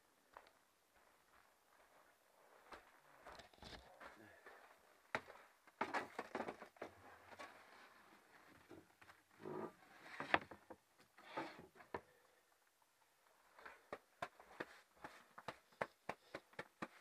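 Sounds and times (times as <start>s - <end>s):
faint rustling and handling: 0.3s - 17.0s.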